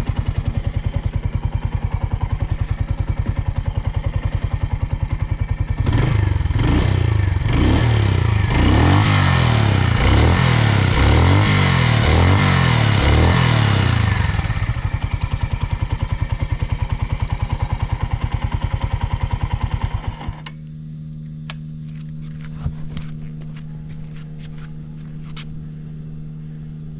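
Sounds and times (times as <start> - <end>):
low hum: 0.0 - 16.6, 19.6 - 26.9
motorcycle engine revving and idling: 0.0 - 26.9.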